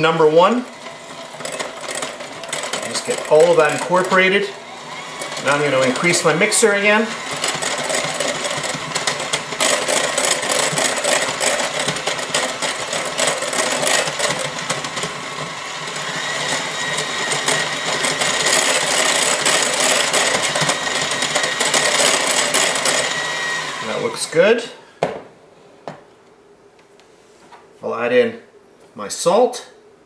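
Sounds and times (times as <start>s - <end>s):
electric hand mixer whirring: 0.0s - 24.5s.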